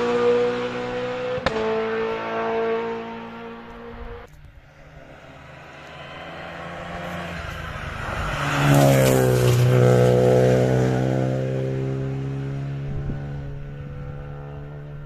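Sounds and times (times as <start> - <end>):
rally car passing at speed: 0.0 - 15.0.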